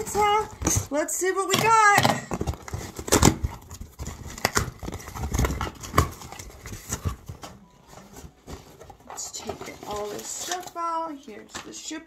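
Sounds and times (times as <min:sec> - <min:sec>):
packaging knocks and clicks: 0:00.0 - 0:10.8.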